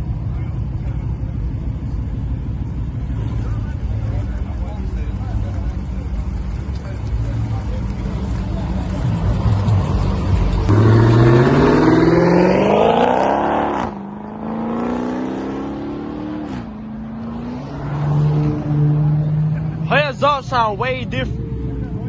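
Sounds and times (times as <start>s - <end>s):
car engine accelerating hard: 1.6s - 20.6s.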